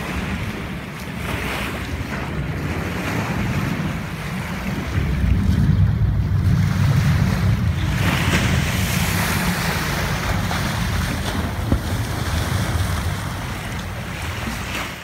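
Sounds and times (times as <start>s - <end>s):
small waves washing in: 0.0s - 15.0s
wind noise on microphone: 0.0s - 15.0s.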